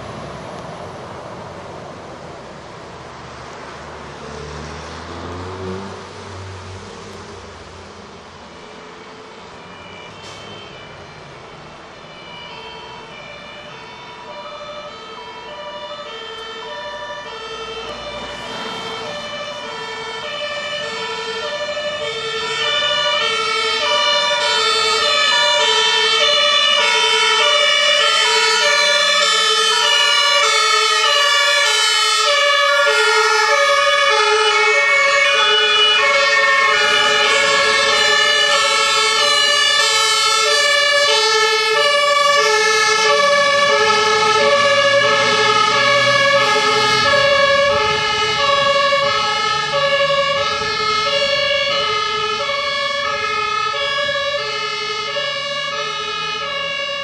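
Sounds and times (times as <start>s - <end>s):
two-tone fire engine sirens: 0.0s - 57.0s.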